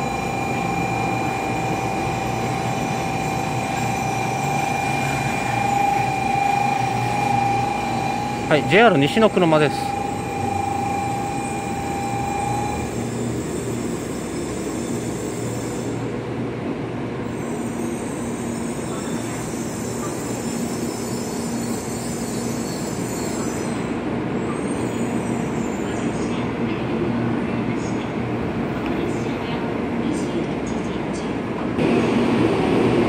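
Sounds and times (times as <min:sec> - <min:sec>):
train hum and rolling noise: 0:00.0 - 0:33.0.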